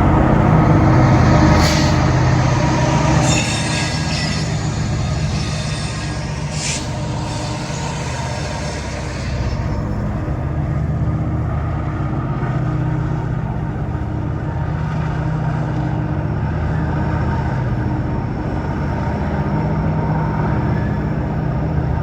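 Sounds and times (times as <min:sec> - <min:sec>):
diesel locomotive engine droning: 0:00.0 - 0:22.0.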